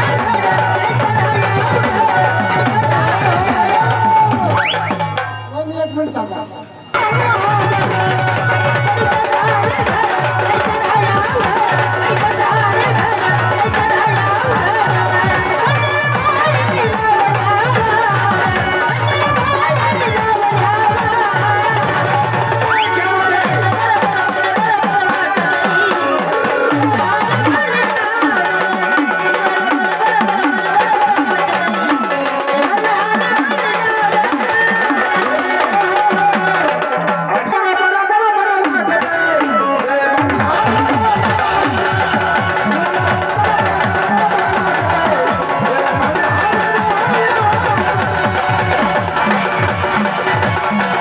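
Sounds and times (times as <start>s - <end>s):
hand drum beating: 0.0s - 5.4s, 7.0s - 37.5s, 40.2s - 51.0s
woman singing: 0.0s - 51.0s.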